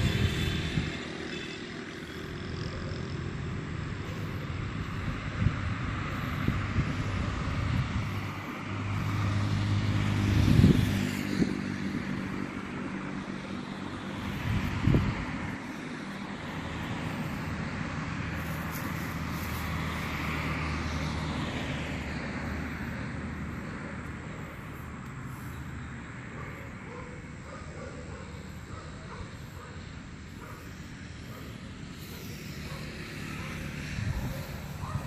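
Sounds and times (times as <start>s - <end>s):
passing vehicle engine and tyres: 0.0s - 35.0s
steady traffic hum: 0.0s - 35.0s.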